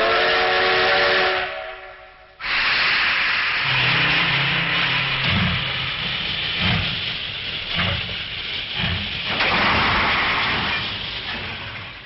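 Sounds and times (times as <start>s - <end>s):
steam locomotive chuffs: 0.0s - 12.0s
steam locomotive hissing: 0.0s - 12.0s.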